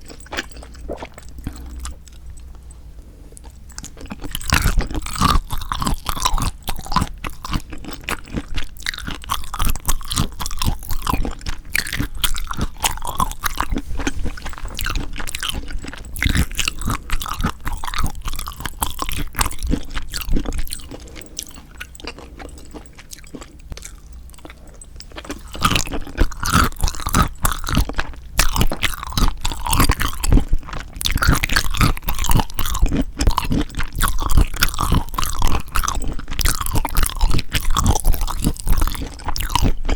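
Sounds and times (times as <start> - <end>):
close-up chewing with wet clicks: 0.0 - 2.7, 3.4 - 13.8, 14.4 - 39.9.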